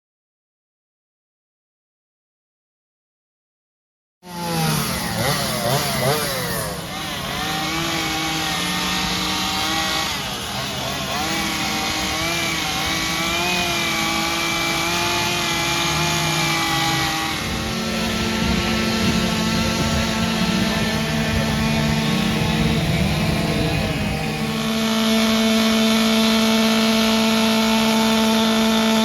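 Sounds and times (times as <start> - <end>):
chainsaw engines revving: 4.2 - 29.0.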